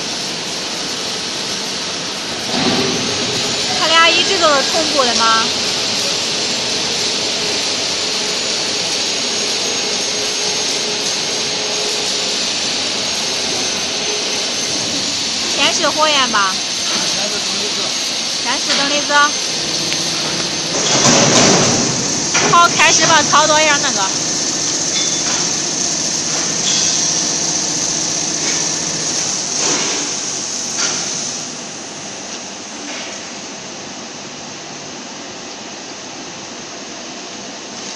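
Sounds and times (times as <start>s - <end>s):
machinery rushing hiss: 0.0s - 37.9s.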